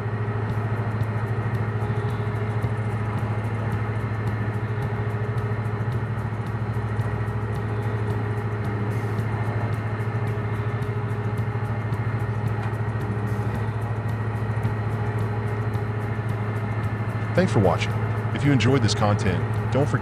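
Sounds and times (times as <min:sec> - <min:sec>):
heavy engine humming: 0:00.0 - 0:20.0.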